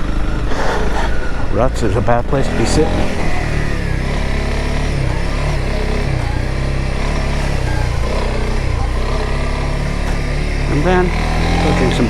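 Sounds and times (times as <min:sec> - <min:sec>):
motorcycle engine running: 0:01.2 - 0:12.0.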